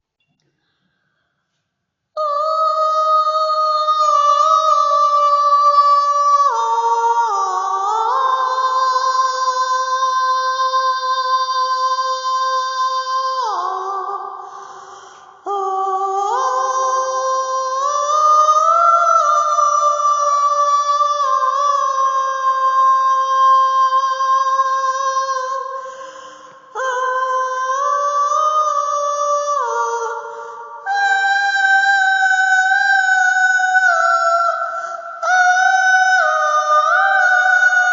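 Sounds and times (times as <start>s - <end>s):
a cappella voices singing chords: 2.2s - 37.9s.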